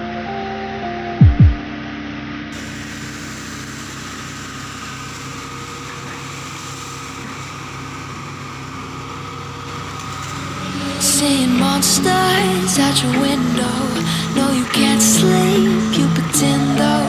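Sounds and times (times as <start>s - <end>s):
excavator diesel engine running: 2.6s - 17.0s.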